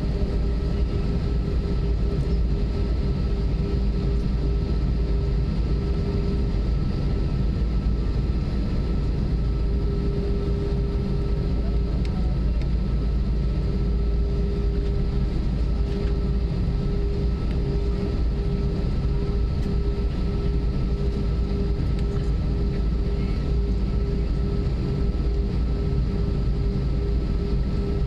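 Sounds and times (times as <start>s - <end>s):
jet engine cabin rumble: 0.0s - 28.0s.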